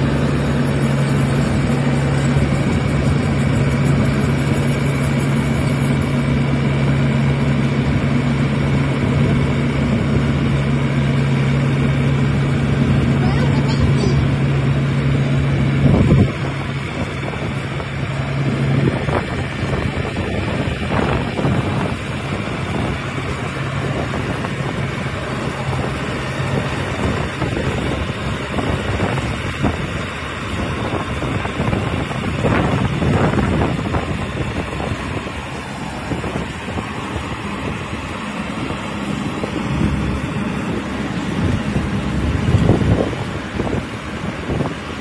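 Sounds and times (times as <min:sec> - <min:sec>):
harvester engine running: 0:00.0 - 0:45.0
wind buffeting microphone: 0:00.0 - 0:45.0.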